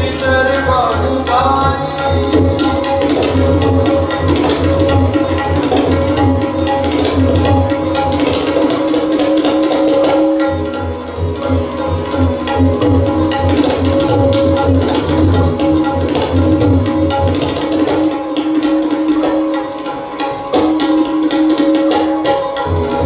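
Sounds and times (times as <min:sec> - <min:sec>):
sitar: 0:00.0 - 0:23.0
tabla playing: 0:00.0 - 0:23.0.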